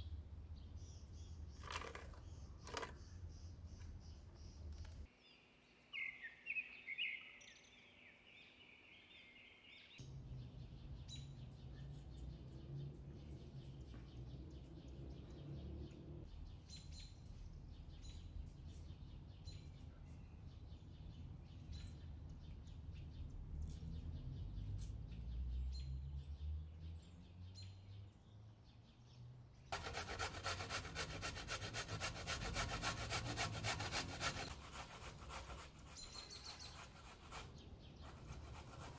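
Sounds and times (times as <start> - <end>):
birds chirping: 0.0 - 29.0, 32.7 - 38.9.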